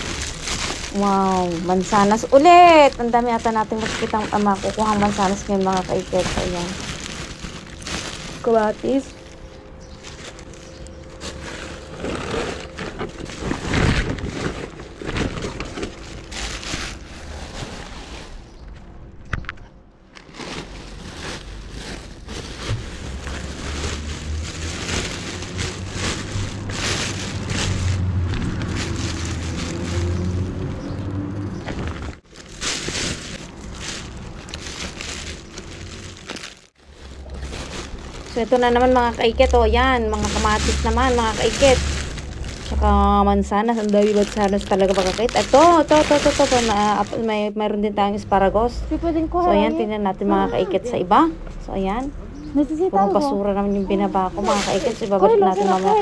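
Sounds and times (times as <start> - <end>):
plastic bags rustling: 0.0 - 18.8, 20.0 - 31.0, 31.6 - 47.5, 49.4 - 51.3, 52.9 - 56.0
low rumble: 0.0 - 49.5.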